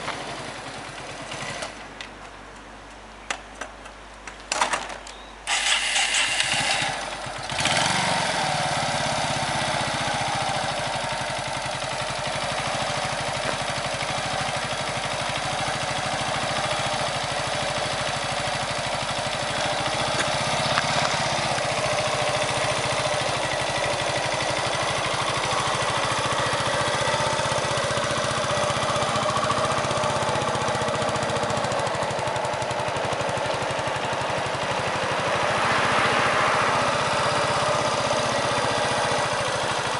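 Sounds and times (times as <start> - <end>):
motorcycle engine idling: 0.0 - 1.9, 5.5 - 39.9.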